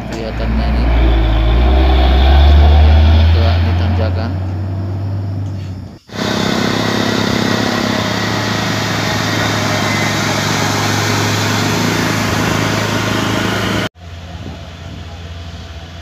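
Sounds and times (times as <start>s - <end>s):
truck diesel engine driving past: 0.0s - 14.2s
distant engine hum: 0.0s - 16.0s.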